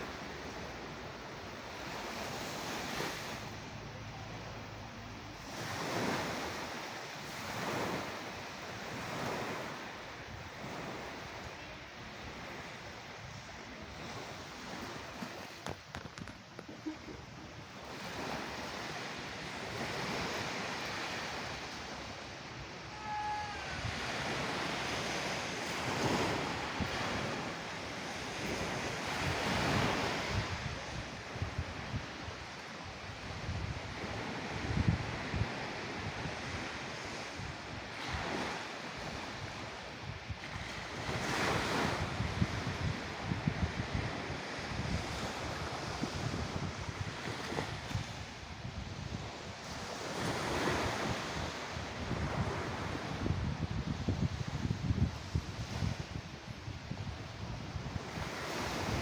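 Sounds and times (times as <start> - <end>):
sea waves washing on shore: 0.0 - 59.0
wind buffeting microphone: 0.0 - 59.0.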